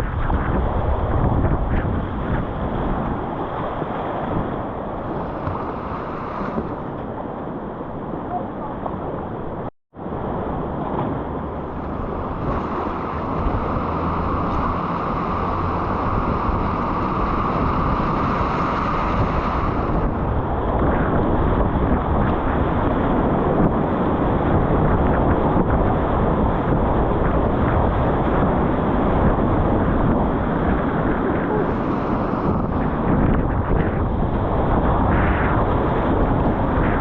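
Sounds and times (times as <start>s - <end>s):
whitewater river roar: 0.0s - 37.0s.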